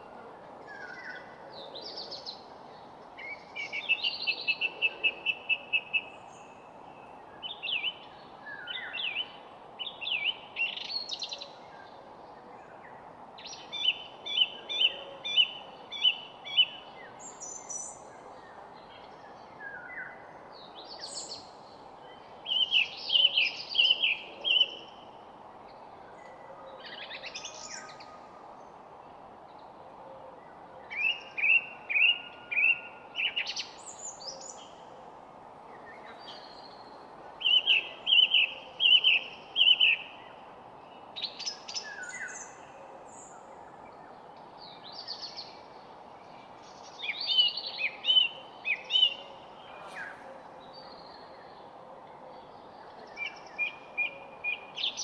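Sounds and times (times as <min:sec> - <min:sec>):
songbirds singing: 0:00.0 - 0:55.0
steady low hiss: 0:00.0 - 0:55.0.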